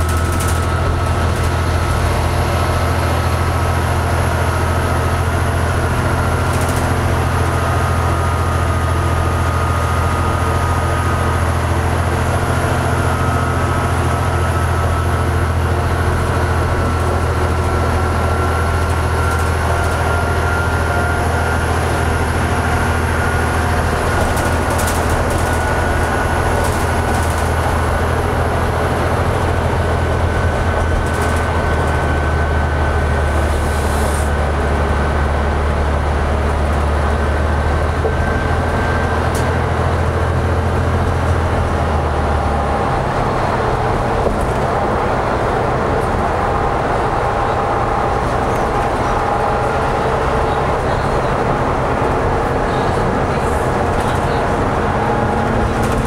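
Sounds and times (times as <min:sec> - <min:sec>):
diesel engine drone: 0:00.0 - 0:56.0
high drivetrain whine: 0:00.0 - 0:56.0
road noise: 0:00.0 - 0:56.0.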